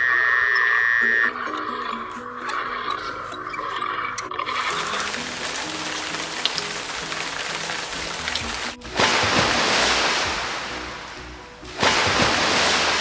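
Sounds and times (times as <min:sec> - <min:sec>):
background music: 0:00.0 - 0:13.0
rushing water sound effect: 0:01.2 - 0:13.0.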